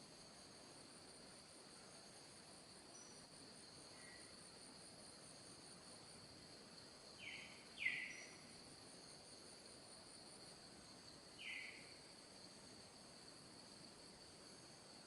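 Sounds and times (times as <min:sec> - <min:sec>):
crickets trilling: 0:00.4 - 0:15.0.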